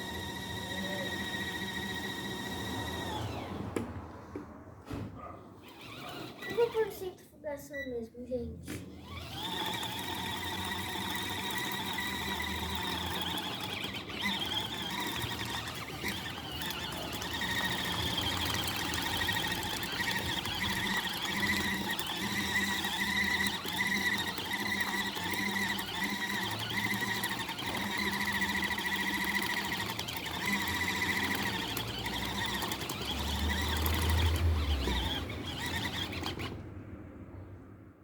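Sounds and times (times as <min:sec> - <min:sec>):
washing machine motor whine: 0:00.0 - 0:04.2, 0:05.6 - 0:07.0, 0:08.9 - 0:36.7.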